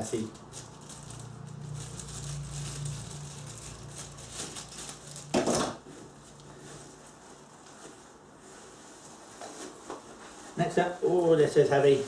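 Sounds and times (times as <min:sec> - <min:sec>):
tools and packaging rustling: 0:00.1 - 0:11.5.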